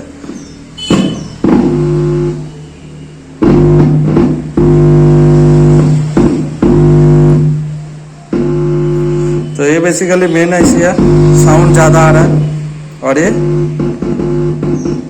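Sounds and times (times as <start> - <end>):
loud buzzing hum from speaker: 0.0 - 15.0.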